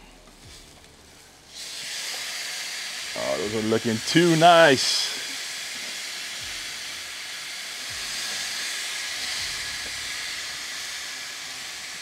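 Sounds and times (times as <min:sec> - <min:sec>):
meat sizzling on a grill: 0:00.4 - 0:12.0.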